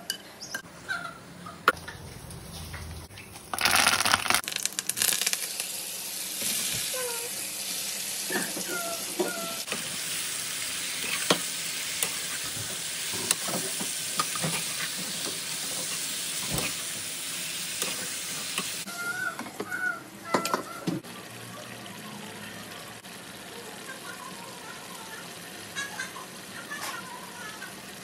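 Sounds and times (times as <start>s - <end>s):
food sizzling in a frying pan: 2.1s - 18.9s, 21.0s - 28.0s.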